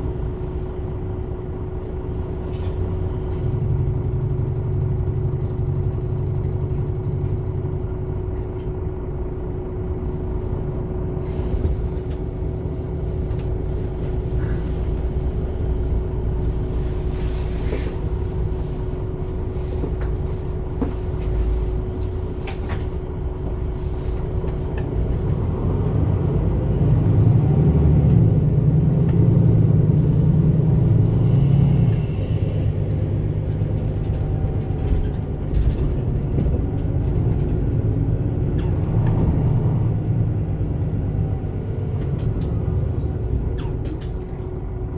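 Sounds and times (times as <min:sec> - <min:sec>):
bus diesel engine running: 0:00.0 - 0:44.9.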